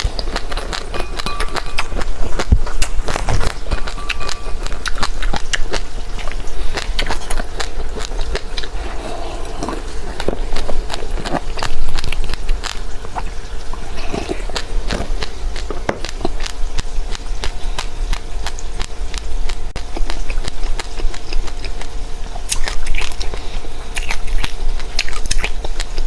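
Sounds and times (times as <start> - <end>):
wet mouth sounds: 0.0 - 21.9, 22.5 - 26.0
chewing seeds with crackling: 0.0 - 26.0.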